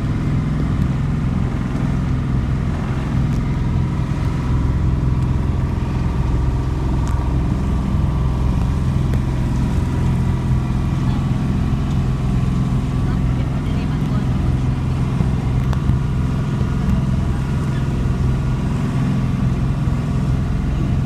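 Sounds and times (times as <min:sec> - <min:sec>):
faint high engine whine: 0:00.0 - 0:21.0
motorboat engine drone: 0:00.0 - 0:21.0.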